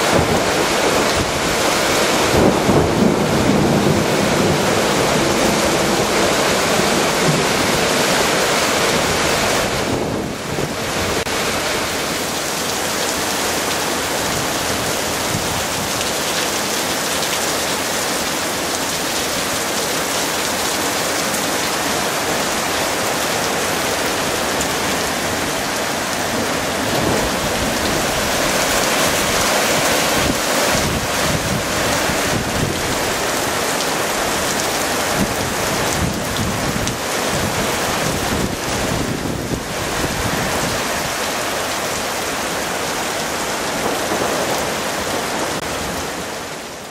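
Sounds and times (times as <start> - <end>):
torrential rain and wind: 0.0 - 46.9.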